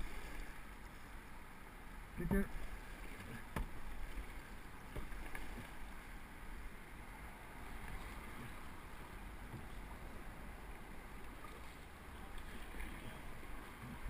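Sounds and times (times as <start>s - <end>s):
canoe paddles dipping in water: 0.0s - 1.3s, 2.2s - 6.8s, 7.4s - 14.0s
water washing along hull: 0.0s - 14.0s.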